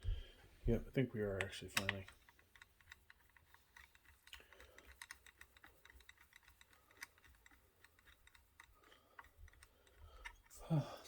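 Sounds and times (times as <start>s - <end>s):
light clicks on metal hardware: 1.3s - 10.6s.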